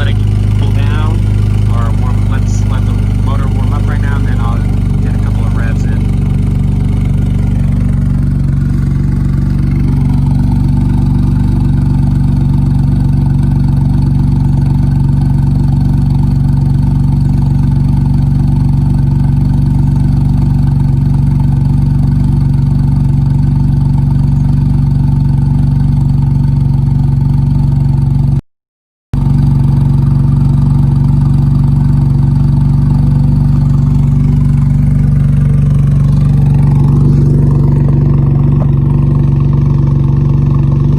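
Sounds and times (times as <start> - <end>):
car engine idling: 0.0 - 28.4, 29.2 - 40.9.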